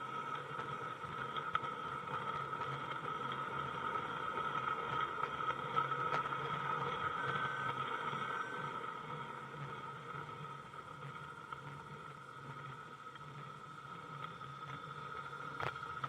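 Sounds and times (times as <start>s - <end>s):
model train running gear whine: 0.0s - 16.0s.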